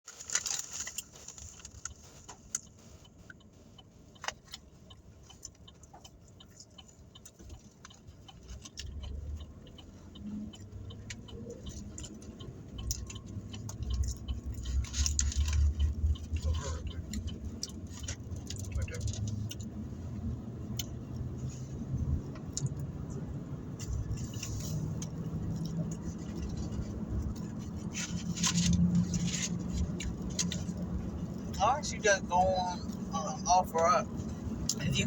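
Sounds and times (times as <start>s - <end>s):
low rumble of car: 0.1s - 35.0s.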